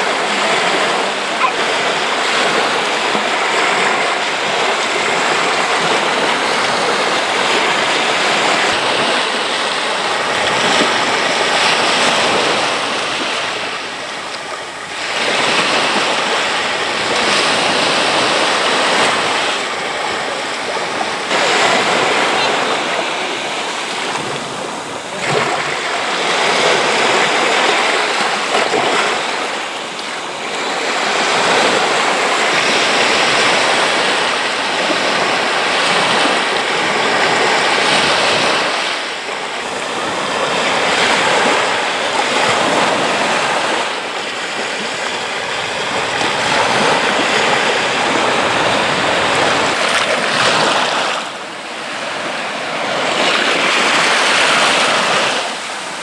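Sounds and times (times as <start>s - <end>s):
small surf washing on sand: 0.0s - 56.0s.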